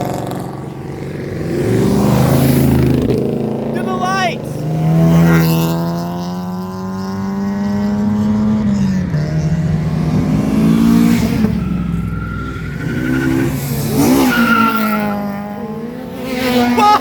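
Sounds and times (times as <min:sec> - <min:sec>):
car engines accelerating past: 0:00.0 - 0:17.0.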